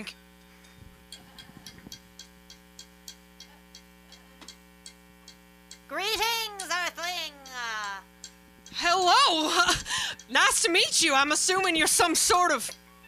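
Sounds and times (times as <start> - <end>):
amplifier electrical hum: 0.0 - 13.0
quiet ticking: 1.0 - 12.9.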